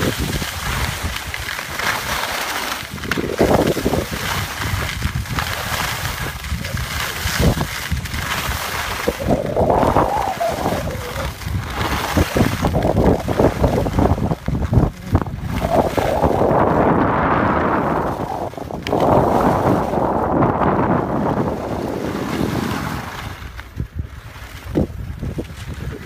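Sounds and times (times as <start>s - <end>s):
wind buffeting microphone: 0.0s - 2.2s, 2.8s - 26.0s
skis sliding over snow: 0.0s - 26.0s.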